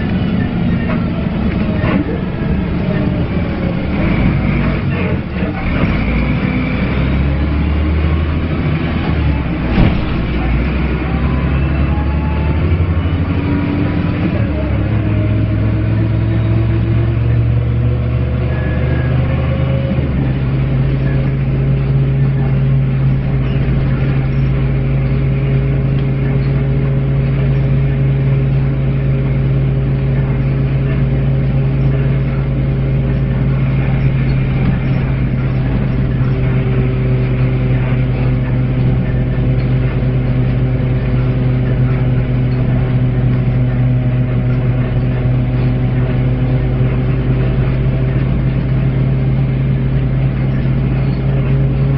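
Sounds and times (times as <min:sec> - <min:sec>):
bus diesel engine droning: 0:00.0 - 0:51.9.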